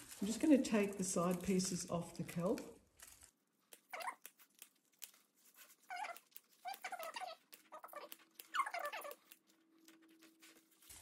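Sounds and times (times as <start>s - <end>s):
scissors squeaking through kelp: 0.0s - 11.0s.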